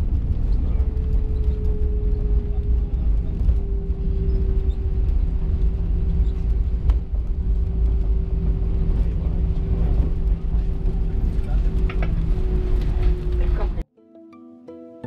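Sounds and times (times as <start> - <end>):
low rumble of aircraft cabin: 0.0 - 13.8.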